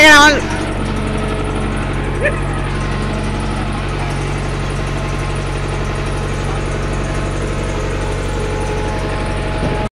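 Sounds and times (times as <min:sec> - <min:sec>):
excavator diesel engine idling: 0:00.0 - 0:09.9.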